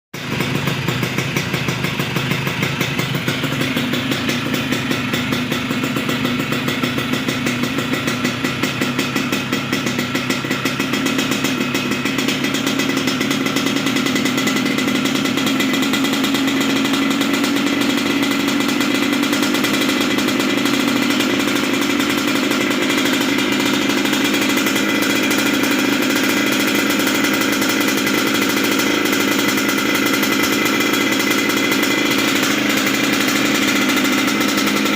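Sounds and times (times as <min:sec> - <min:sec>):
two-stroke engine running: 0:00.2 - 0:34.9.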